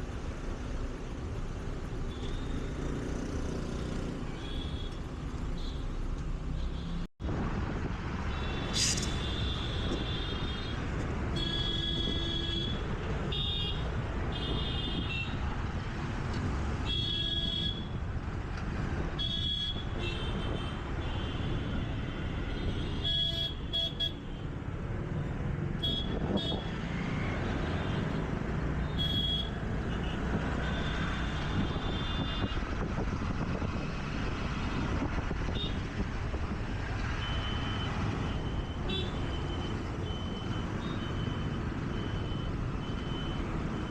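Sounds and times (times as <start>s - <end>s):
traffic rumble of engines and tyres: 0.0s - 43.9s
wind: 0.0s - 43.9s.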